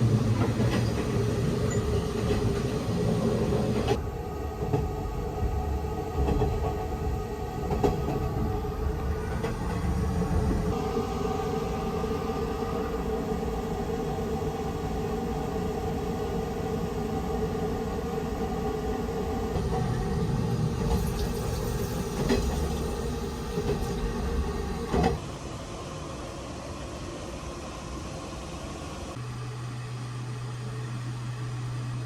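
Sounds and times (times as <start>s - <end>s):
train rumbling inside carriage: 0.0s - 32.0s.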